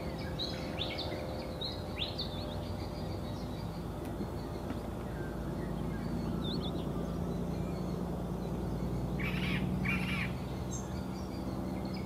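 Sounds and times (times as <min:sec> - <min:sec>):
bird chirp: 0:00.0 - 0:12.0
harsh bird calls: 0:00.0 - 0:12.0
steady low hum: 0:00.0 - 0:12.0.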